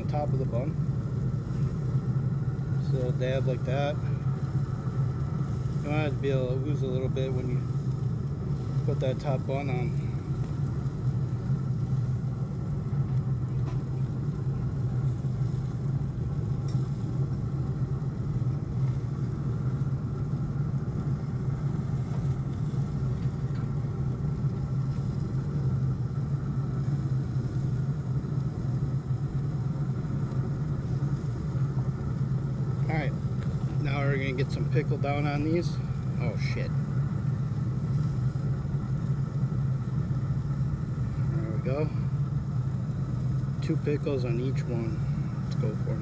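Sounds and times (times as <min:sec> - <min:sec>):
grill fan humming: 0:00.0 - 0:46.0.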